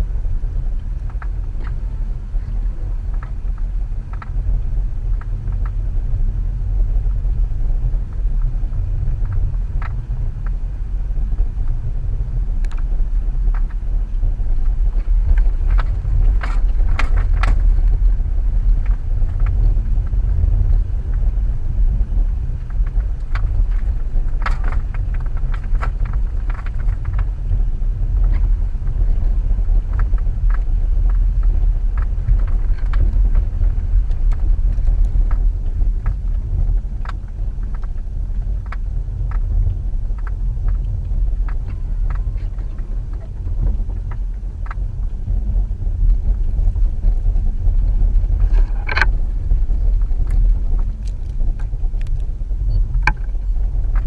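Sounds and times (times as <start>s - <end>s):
car driving through snow: 0.0s - 54.0s.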